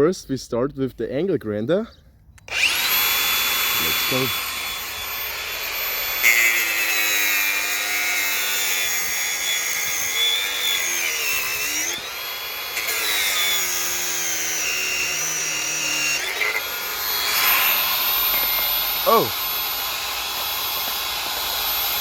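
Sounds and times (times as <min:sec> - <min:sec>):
angle grinder cutting metal: 0:02.4 - 0:22.0.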